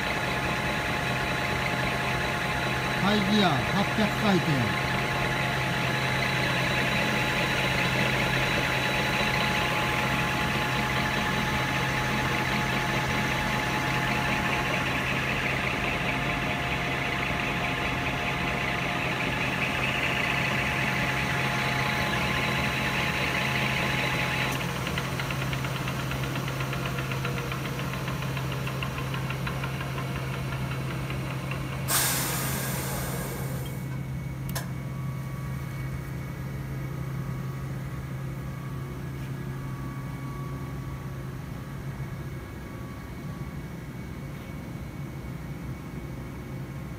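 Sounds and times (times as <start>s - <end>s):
high gear whine: 0.0s - 46.9s
lathe running with hum: 0.0s - 46.9s.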